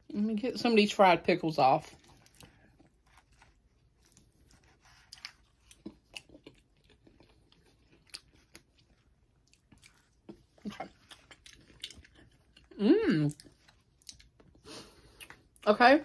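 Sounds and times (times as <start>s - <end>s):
person crunching and chewing: 1.9s - 15.6s.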